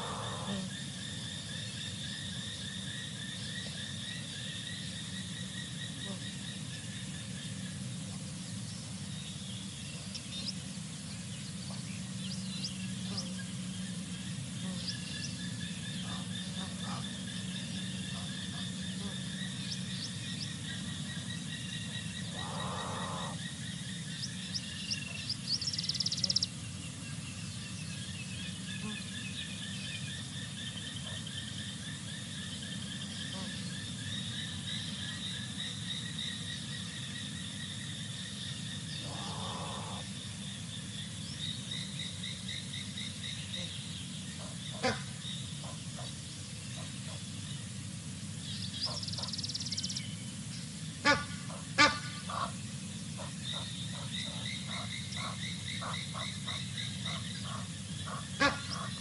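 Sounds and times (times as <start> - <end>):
frogs trilling: 0.0 - 59.0.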